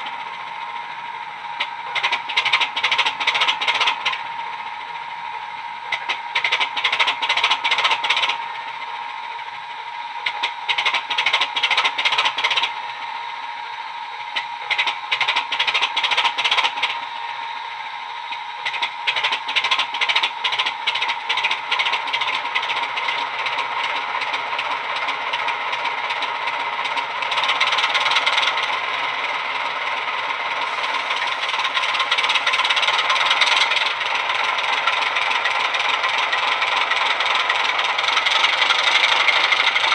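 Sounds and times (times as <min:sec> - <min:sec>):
model diesel engine idling: 0:00.0 - 0:39.9.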